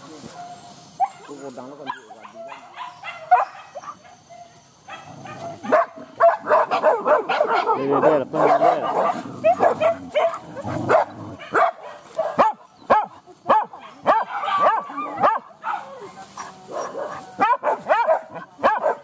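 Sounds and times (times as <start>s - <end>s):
dogs yelping barks: 0.3s - 19.0s.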